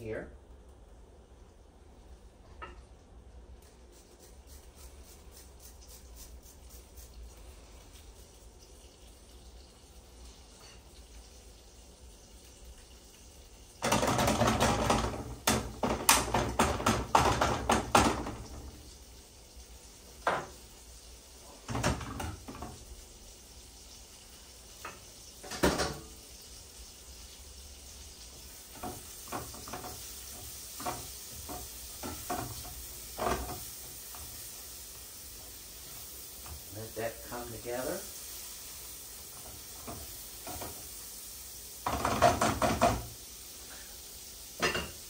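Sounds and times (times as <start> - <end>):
utensil stirring in a frying pan: 1.0 - 45.0
garlic cooking in butter: 2.5 - 45.0.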